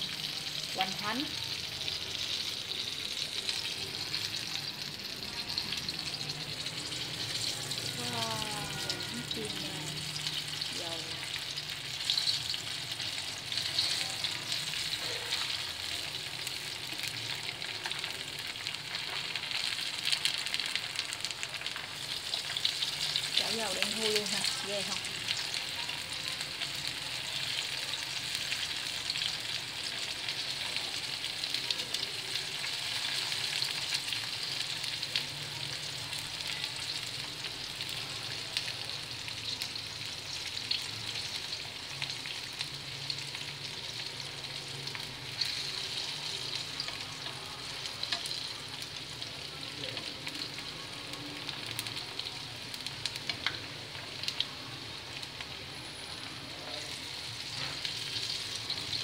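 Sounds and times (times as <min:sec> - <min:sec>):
food deep-frying in oil: 0:00.0 - 0:59.0.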